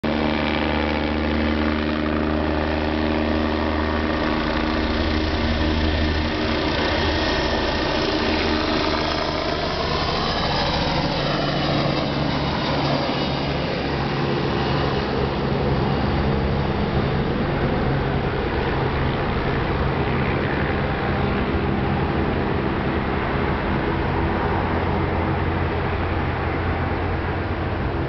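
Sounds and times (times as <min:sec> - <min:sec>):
helicopter turbine and rotor: 0:00.0 - 0:28.0.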